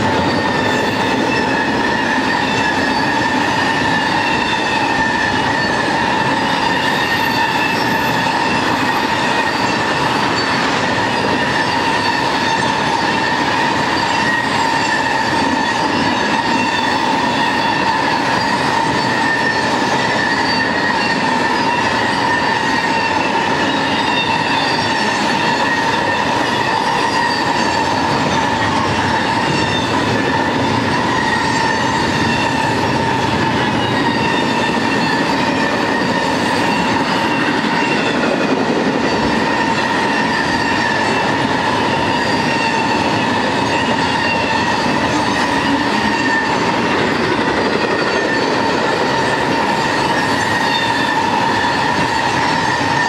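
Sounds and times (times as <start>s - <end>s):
steel wheels on rail: 0.0s - 53.0s.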